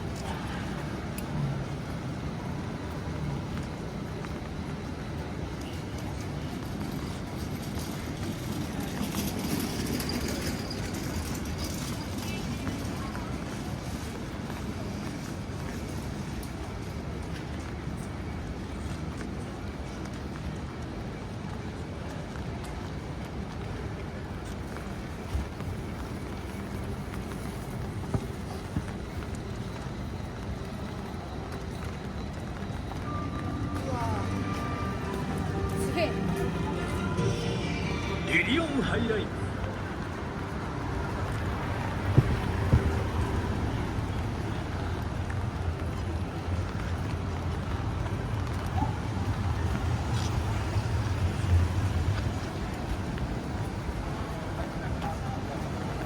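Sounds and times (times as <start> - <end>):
passing traffic: 0.0 - 17.9, 23.6 - 56.0
rain on wet road: 0.0 - 36.4, 38.7 - 56.0
city street ambience: 0.0 - 56.0.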